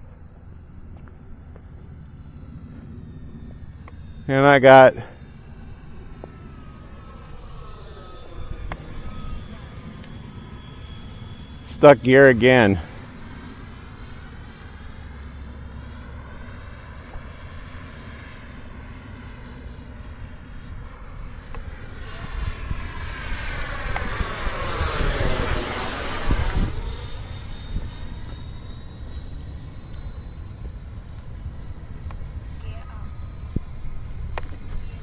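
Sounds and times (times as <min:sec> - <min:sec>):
electric ducted fan whining: 0:00.0 - 0:35.0.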